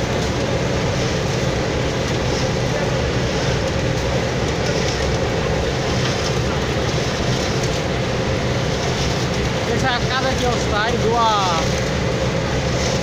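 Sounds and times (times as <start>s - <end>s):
asphalt plant mechanical din: 0.0s - 13.0s.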